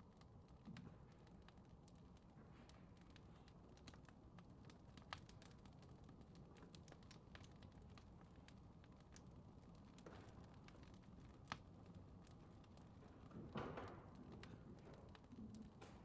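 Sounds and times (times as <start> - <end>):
fireplace crackling: 0.0 - 16.0.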